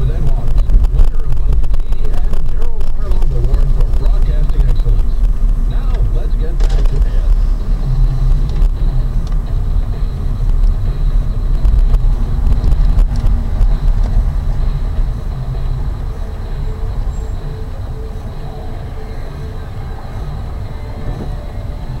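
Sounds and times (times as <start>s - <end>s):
road and engine rumble in car: 0.0s - 22.0s.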